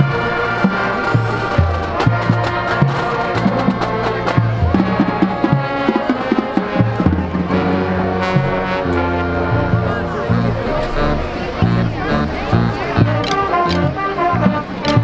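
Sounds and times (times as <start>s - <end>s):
brass holding chords: 0.0s - 15.0s
drums and percussion: 0.0s - 15.0s.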